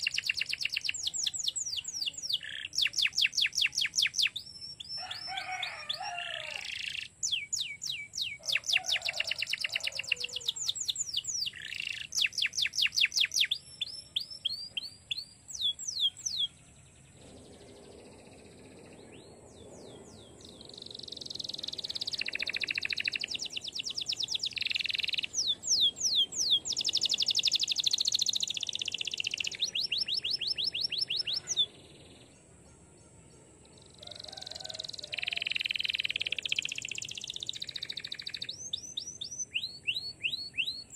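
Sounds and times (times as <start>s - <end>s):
canary singing rolling trills: 0.0s - 40.9s.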